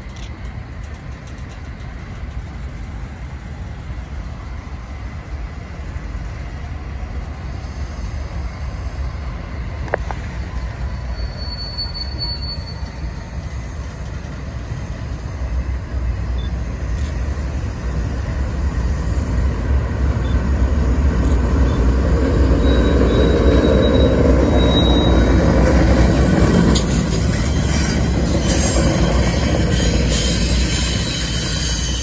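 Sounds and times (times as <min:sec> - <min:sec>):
diesel locomotive engine rumble: 0:00.0 - 0:32.0
train wheels rolling: 0:00.0 - 0:32.0.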